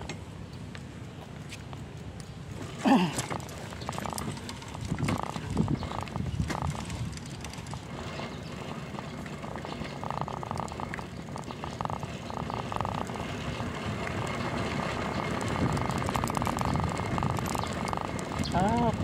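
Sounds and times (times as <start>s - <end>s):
wind and tyre rumble: 0.0s - 19.0s
bicycle freewheel ticking: 3.6s - 19.0s.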